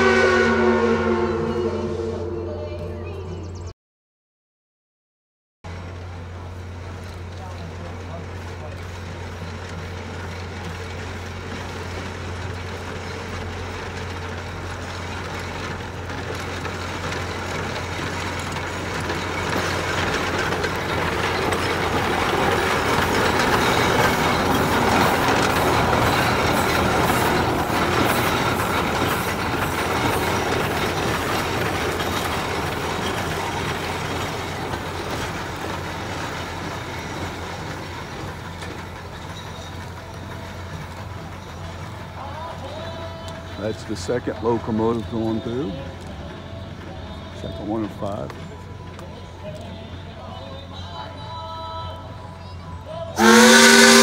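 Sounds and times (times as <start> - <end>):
steam locomotive running past: 0.0 - 3.7, 5.7 - 54.0.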